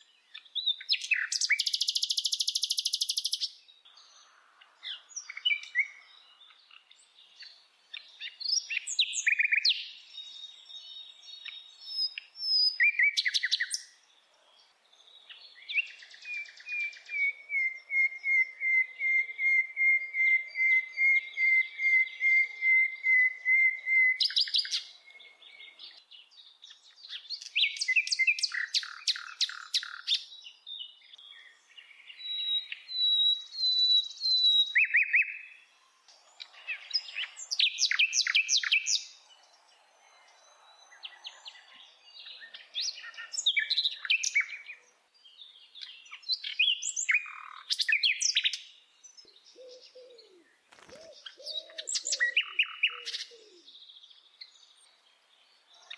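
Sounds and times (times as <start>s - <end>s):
bird singing trills and whistles: 0.0s - 4.2s, 4.8s - 14.1s, 15.0s - 55.9s.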